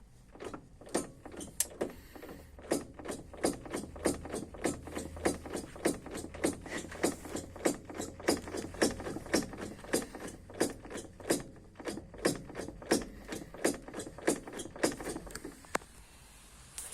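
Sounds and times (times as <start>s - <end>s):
low vehicle hum: 0.0s - 16.8s
gearbox knocking: 0.3s - 15.5s.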